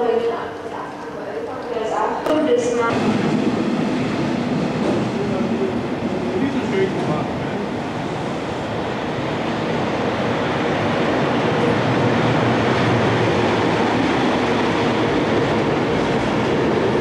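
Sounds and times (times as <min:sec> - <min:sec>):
rail vehicle rumbling on track: 0:00.0 - 0:17.0.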